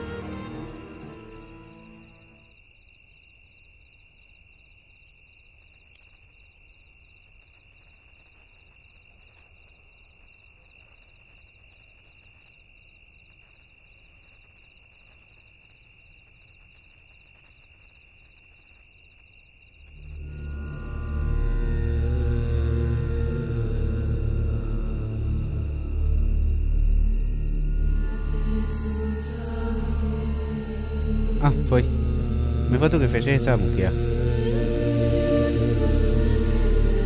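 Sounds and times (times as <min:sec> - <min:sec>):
insects chirring: 0:00.5 - 0:37.0.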